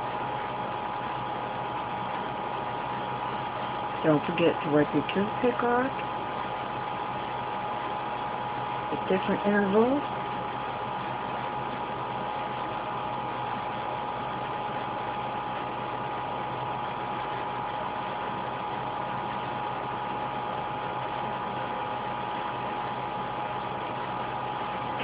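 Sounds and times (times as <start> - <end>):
faint hum and whine: 0.0 - 25.0.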